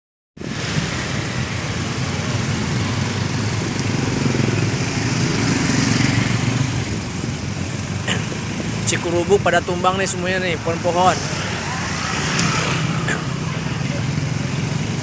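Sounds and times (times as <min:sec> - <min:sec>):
heavy rain: 0:00.4 - 0:15.0.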